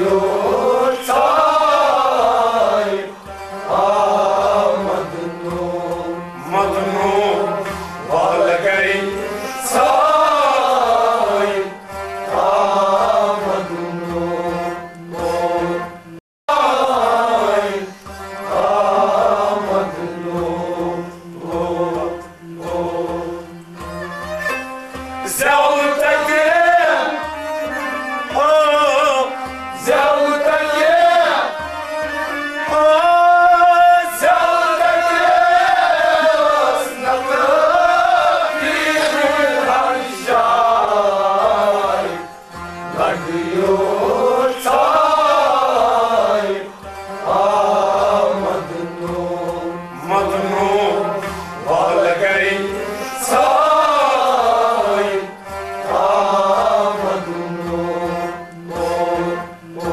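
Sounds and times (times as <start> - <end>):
man singing: 3.7 - 24.4, 25.2 - 42.2, 42.9 - 59.9.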